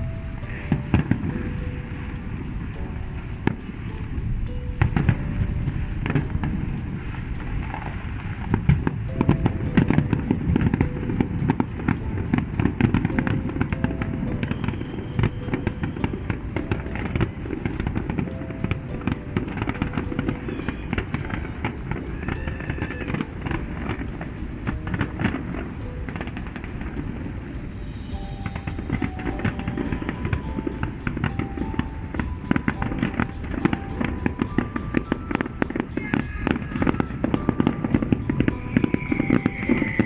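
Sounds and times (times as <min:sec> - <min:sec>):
fireworks bangs and crackling: 0:00.0 - 0:40.0
music playing: 0:00.0 - 0:40.0.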